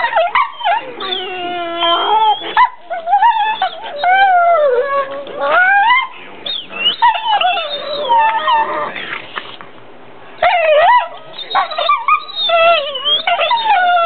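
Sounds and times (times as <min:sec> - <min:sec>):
dogs whining and yowling: 0:00.0 - 0:09.2, 0:10.4 - 0:14.0.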